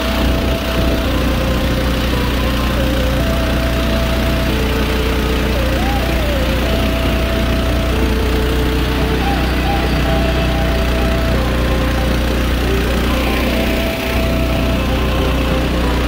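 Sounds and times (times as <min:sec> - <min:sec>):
boat motor running steadily: 0:00.0 - 0:16.0.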